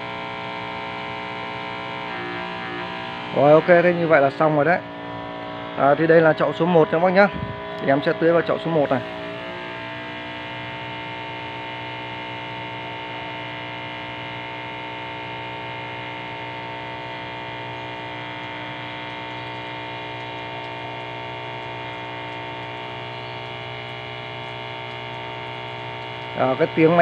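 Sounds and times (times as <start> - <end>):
electric water pump humming: 0.0 - 27.0.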